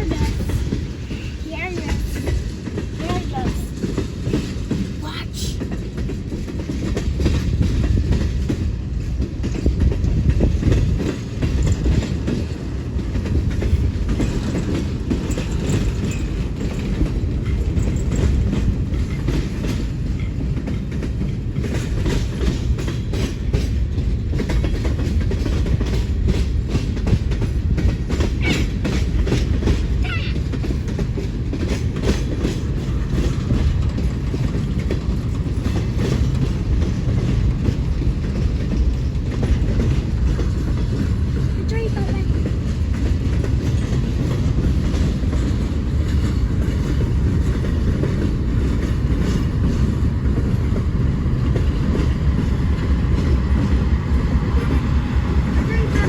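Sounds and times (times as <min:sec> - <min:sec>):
railroad cars rumbling: 0:00.0 - 0:56.0
wheels clacking over rail joints: 0:00.0 - 0:56.0.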